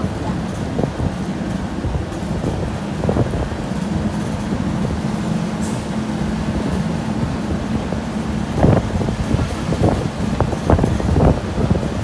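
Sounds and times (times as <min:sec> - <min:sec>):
carriages rolling on road: 0:00.0 - 0:12.0
engine drone: 0:00.0 - 0:12.0.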